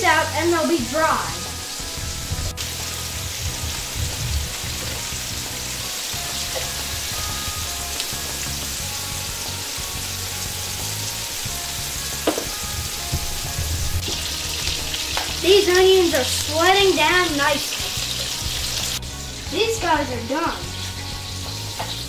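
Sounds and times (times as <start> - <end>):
patties sizzling on a griddle: 0.5 - 22.0.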